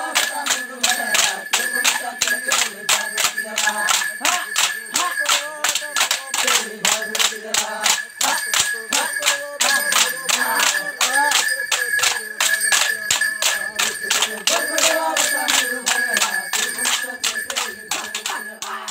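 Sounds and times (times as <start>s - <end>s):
voices chanting: 0.0s - 18.9s
wooden sticks clacking: 0.2s - 18.8s.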